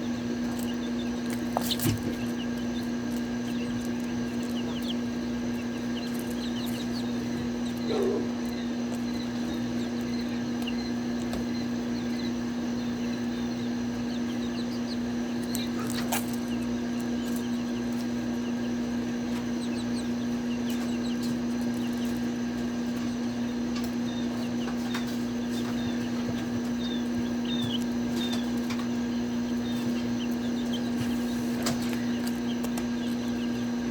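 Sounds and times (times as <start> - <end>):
chicks peeping: 0.0 - 33.9
loud steady low hum: 0.0 - 33.9.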